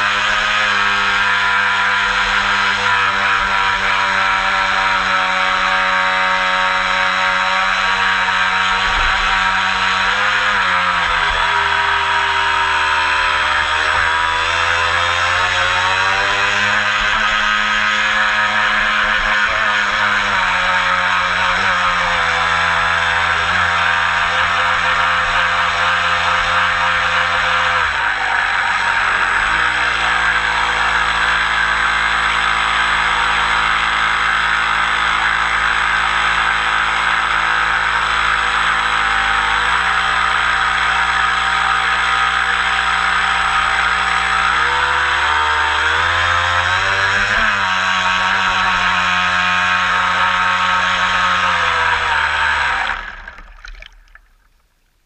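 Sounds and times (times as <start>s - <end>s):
model boat motor running: 0.0s - 54.5s.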